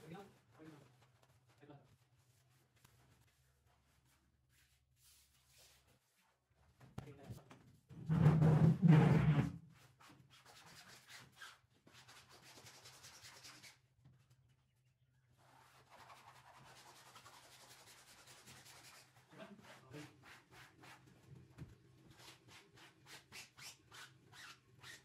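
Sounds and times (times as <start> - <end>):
wallpaper rubbing on wall: 1.3 - 6.5, 8.0 - 13.9, 15.3 - 25.0.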